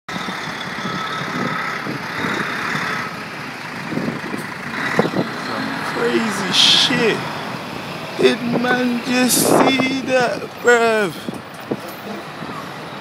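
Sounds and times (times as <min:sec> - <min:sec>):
heavy lorry passing: 0:00.1 - 0:13.0
road traffic rumble: 0:00.1 - 0:13.0.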